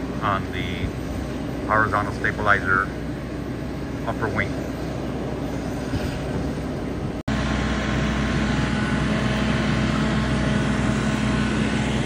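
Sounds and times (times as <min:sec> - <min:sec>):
mechanical hum of ground equipment: 0:00.0 - 0:12.0
steady whining tones: 0:00.0 - 0:12.0.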